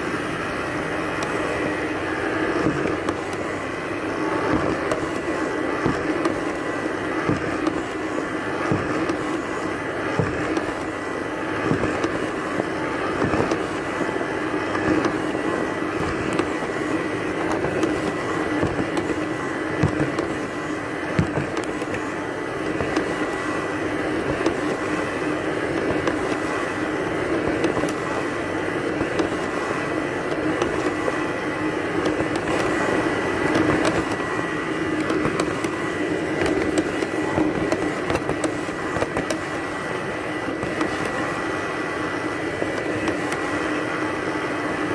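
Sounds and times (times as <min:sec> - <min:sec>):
robot vacuum motor hum: 0:00.0 - 0:44.9.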